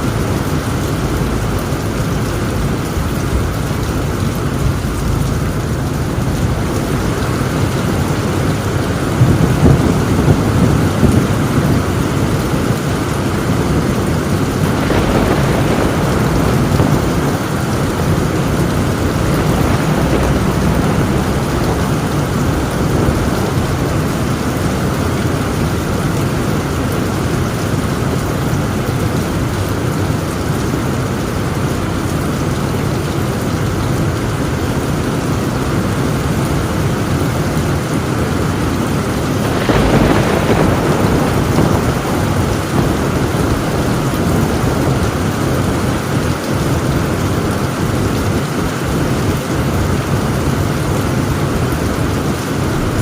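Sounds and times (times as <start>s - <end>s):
heavy rain on a tin roof: 0.0s - 53.0s
thunder rumbling: 0.0s - 53.0s.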